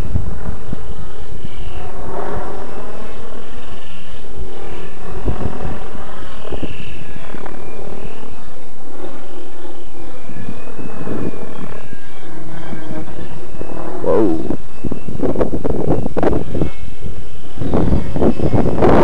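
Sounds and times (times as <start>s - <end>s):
helicopter rotor hum: 0.0s - 18.8s
high electric motor whine: 0.0s - 19.0s.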